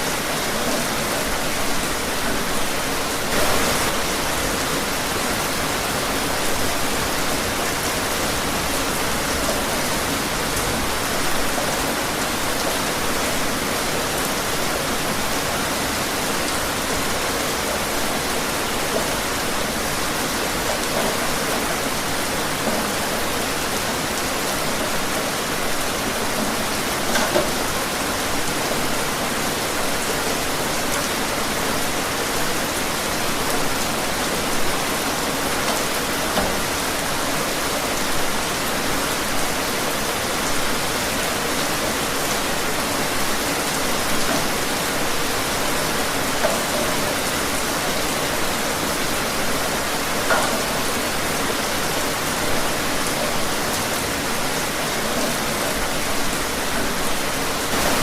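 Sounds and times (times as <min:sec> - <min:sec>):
rain splashes: 0:00.0 - 0:58.0
steady rainfall: 0:00.0 - 0:58.0.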